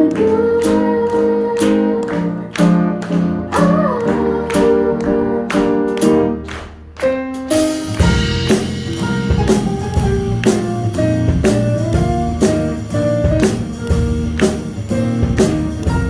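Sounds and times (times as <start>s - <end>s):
drum kit beat: 0.0s - 16.0s
live band playing: 0.0s - 16.0s.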